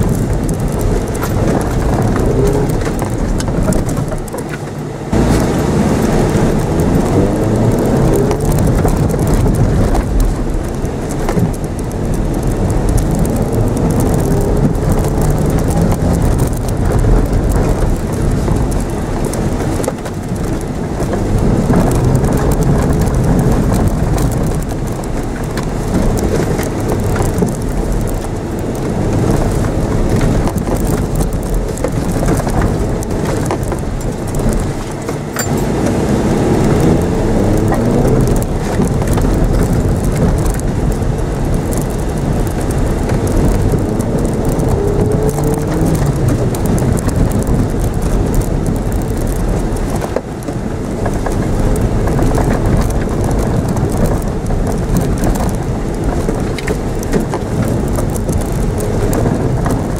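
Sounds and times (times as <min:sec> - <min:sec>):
car engine revving: 0:00.0 - 0:49.6
tyre and ground rumble: 0:00.0 - 0:59.9.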